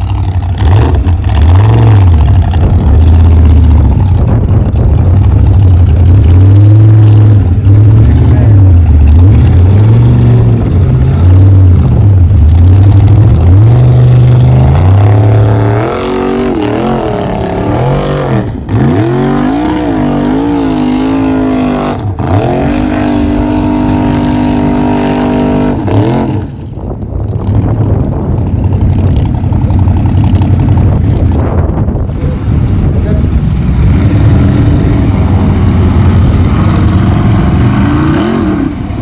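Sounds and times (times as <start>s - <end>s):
race truck engine revving: 0.0s - 39.0s.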